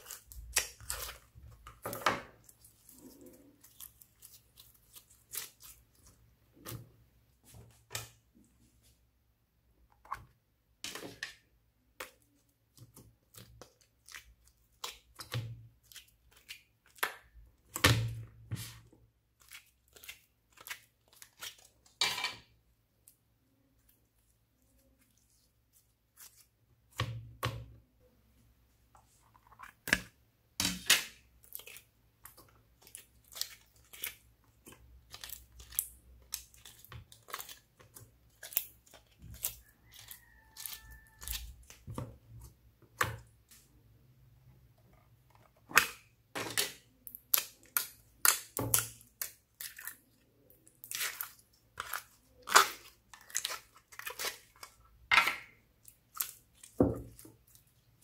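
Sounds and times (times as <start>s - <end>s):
slime squishing with wet clicks: 0.0s - 6.9s, 9.9s - 28.0s, 29.0s - 58.0s.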